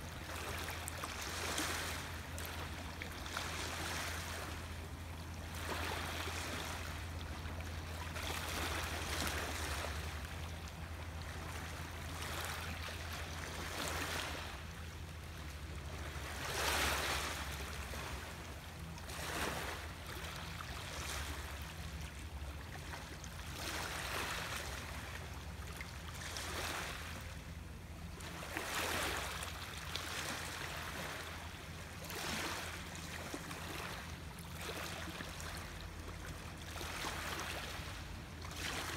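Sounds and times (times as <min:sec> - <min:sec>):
small waves washing: 0:00.0 - 0:38.9.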